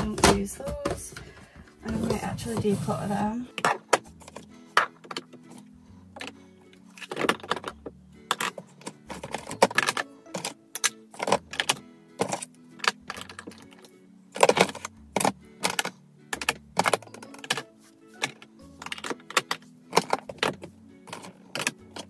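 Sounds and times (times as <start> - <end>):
plastic items clicking and clattering: 3.5 - 22.0.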